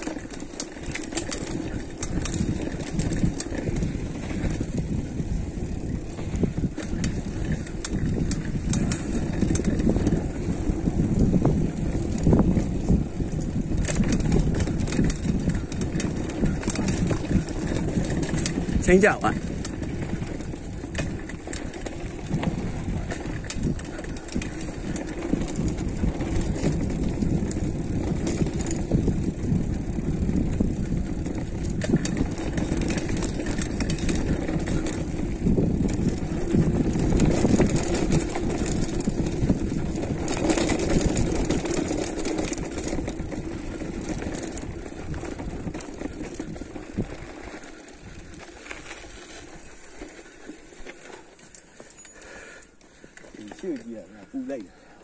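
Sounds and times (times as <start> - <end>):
wind noise: 0.0 - 51.2
bike rattling over bumps: 0.0 - 55.0
bike tyres rolling on dirt: 0.0 - 55.0.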